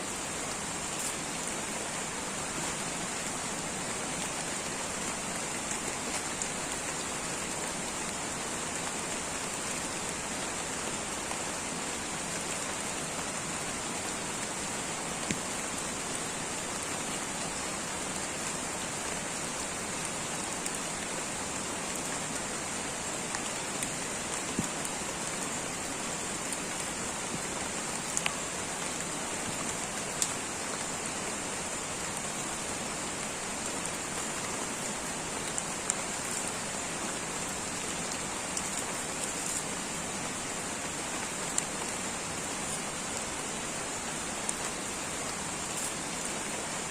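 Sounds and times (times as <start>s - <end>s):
light rain hissing: 0.0s - 46.9s.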